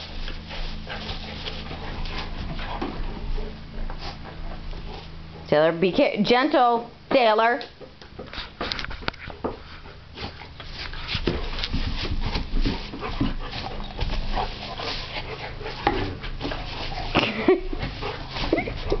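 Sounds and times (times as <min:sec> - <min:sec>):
dogs scuffling: 0:00.0 - 0:06.1, 0:07.7 - 0:19.0.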